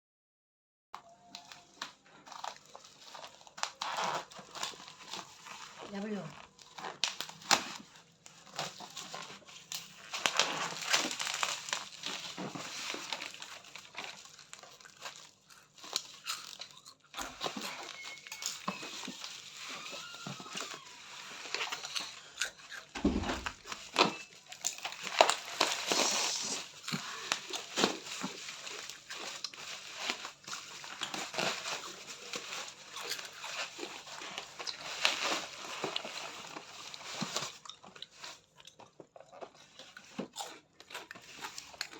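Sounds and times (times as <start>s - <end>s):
packaging crinkling and rustling: 1.0s - 41.9s.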